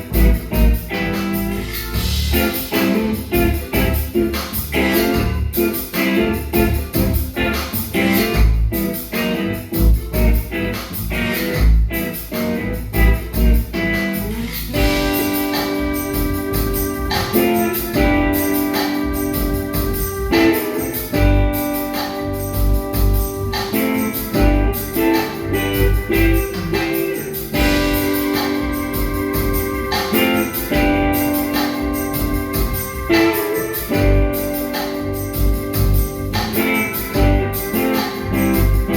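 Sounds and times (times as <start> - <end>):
heavy bass notes: 0.0 - 38.9
live band playing instrumental: 0.0 - 38.9.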